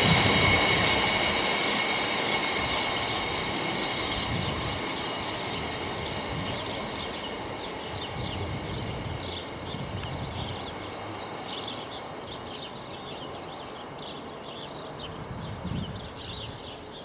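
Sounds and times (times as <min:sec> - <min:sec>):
small birds chirping: 0:00.6 - 0:17.0.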